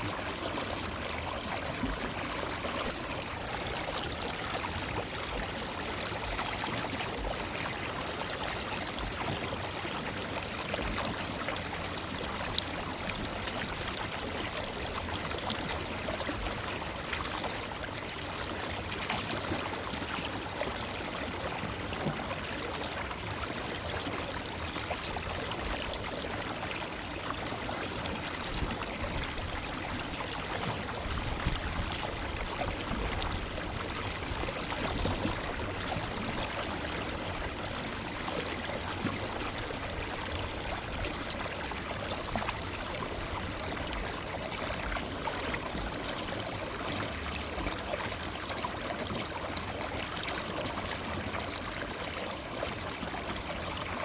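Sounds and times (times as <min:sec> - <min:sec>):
water splashing and gurgling: 0:00.0 - 0:54.0.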